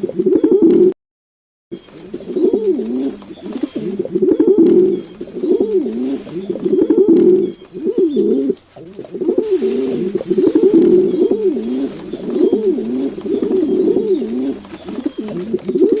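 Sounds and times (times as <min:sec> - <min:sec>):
pigeons cooing: 0:00.0 - 0:00.9, 0:01.8 - 0:16.0.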